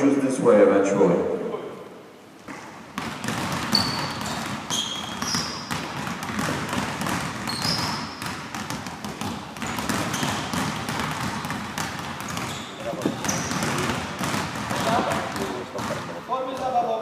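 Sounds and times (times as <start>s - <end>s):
sneakers squeaking on court: 2.4s - 16.8s
basketballs bouncing on gym floor: 2.4s - 17.0s.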